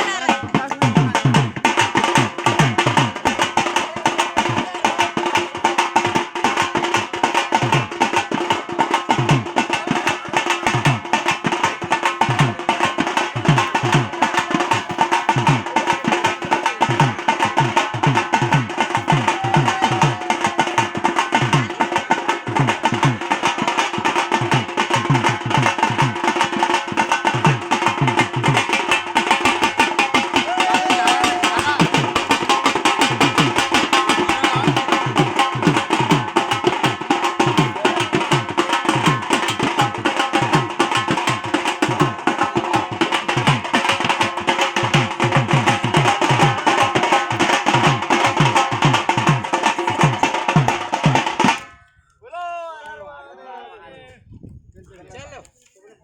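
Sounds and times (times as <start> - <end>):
drum beaten in fast rhythm: 0.0 - 51.8.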